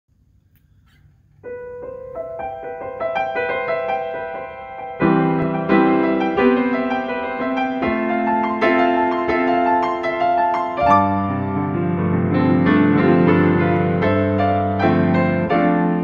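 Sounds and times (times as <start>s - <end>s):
grand piano playing: 1.4s - 16.0s.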